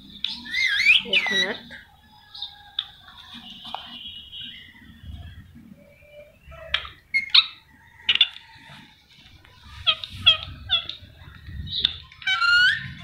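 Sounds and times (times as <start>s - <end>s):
parakeet chirping calls: 0.0s - 2.7s, 3.5s - 8.4s, 9.7s - 13.0s.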